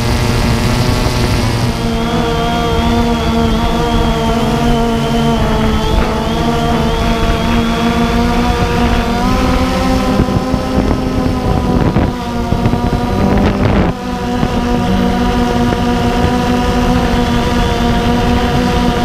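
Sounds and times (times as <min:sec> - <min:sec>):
drone motors whining: 0:00.0 - 0:19.0
wind noise on microphone: 0:00.0 - 0:19.0.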